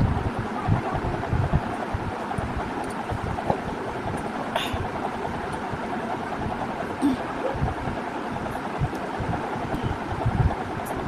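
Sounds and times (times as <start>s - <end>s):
background rumble and hiss: 0.0s - 11.0s.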